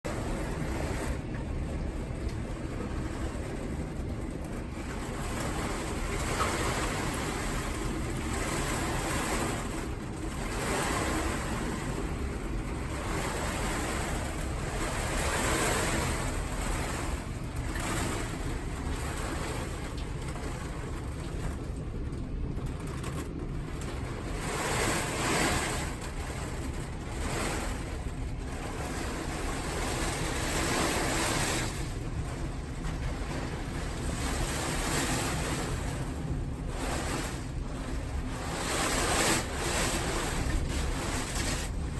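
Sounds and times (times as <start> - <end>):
strong wind: 0.0 - 41.9
heavy rain: 0.1 - 41.9.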